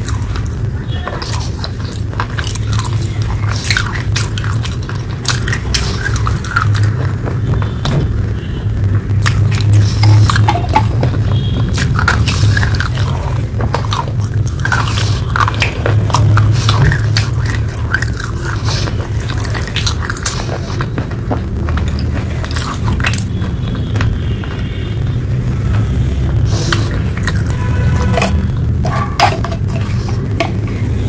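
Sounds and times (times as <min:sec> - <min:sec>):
chewing hard dry clay: 0:00.0 - 0:31.0
steady low hum: 0:00.0 - 0:31.0.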